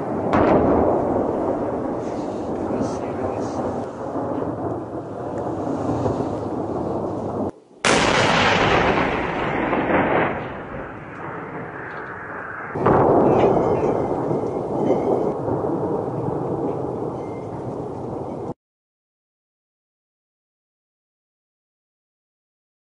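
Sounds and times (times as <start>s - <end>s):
heavy explosions rumbling: 0.0s - 18.6s.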